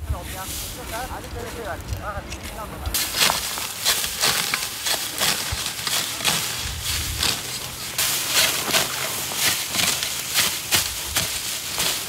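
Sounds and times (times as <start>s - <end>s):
sickle cutting dry wheat stalks: 0.0s - 12.0s.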